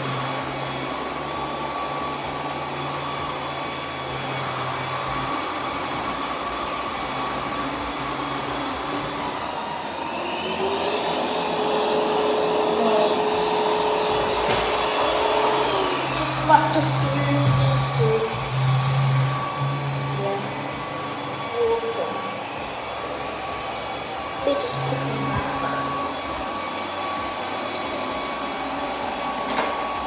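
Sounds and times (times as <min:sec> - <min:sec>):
robot vacuum fan whirring: 0:00.0 - 0:30.0.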